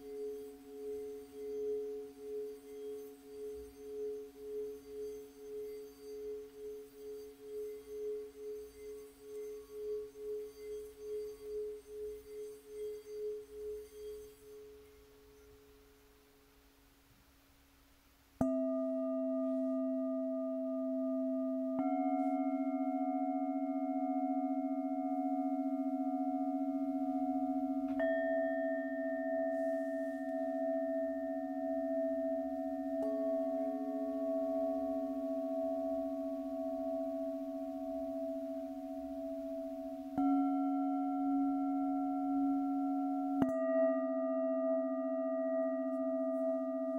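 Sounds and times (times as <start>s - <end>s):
singing bowls ringing: 0.0s - 16.4s, 18.4s - 46.9s.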